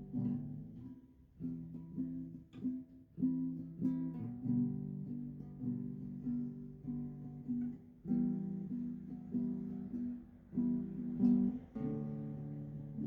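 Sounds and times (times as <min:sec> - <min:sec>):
acoustic guitar strummed slowly: 0:00.0 - 0:13.0.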